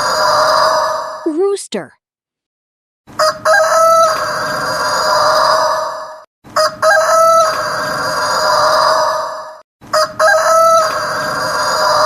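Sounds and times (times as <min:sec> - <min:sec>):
rooster crowing: 0:00.0 - 0:01.2, 0:03.1 - 0:12.0.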